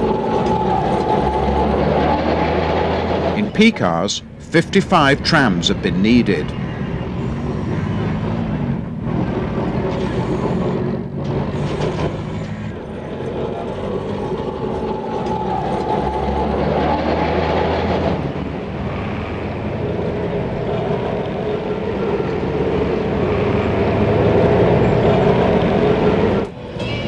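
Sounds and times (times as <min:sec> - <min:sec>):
tram wheels rumbling on track: 0:00.0 - 0:27.0
tram whine: 0:00.0 - 0:27.0.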